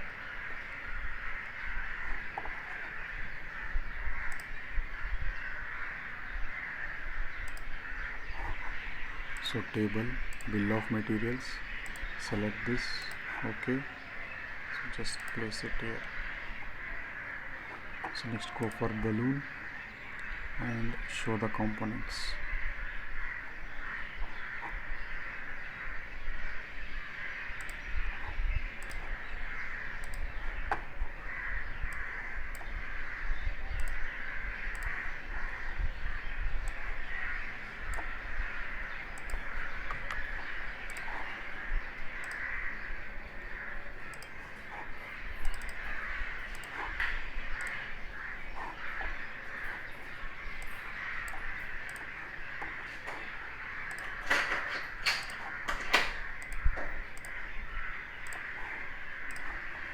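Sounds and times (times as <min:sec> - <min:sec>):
birds cawing: 0:00.0 - 0:59.9
sharp clicks: 0:04.0 - 0:05.6, 0:07.2 - 0:23.0, 0:27.1 - 0:59.9.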